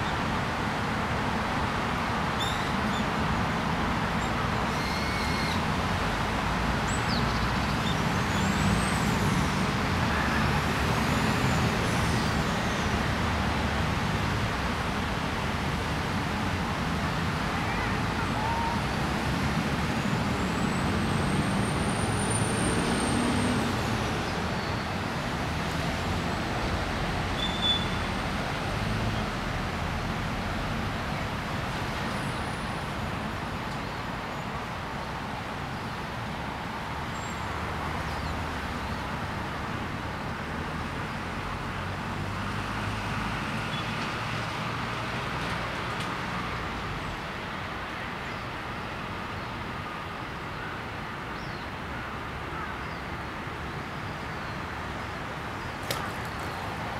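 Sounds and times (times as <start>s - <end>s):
distant road traffic: 0.0s - 56.9s.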